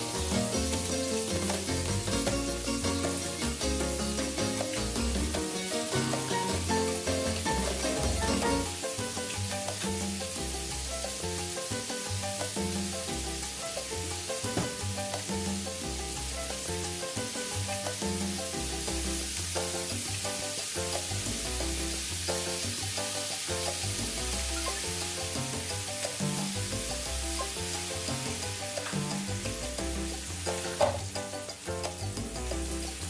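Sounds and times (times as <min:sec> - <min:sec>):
background music with bass line: 0:00.0 - 0:33.0
squash sizzling in hot oil: 0:00.0 - 0:33.0.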